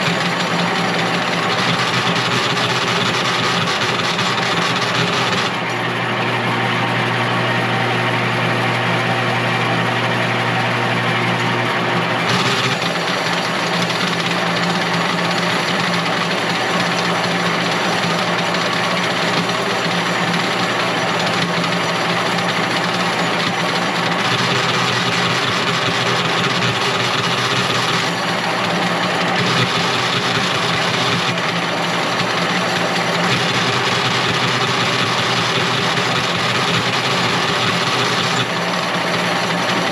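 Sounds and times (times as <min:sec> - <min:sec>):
machine humming: 0:00.0 - 0:39.9.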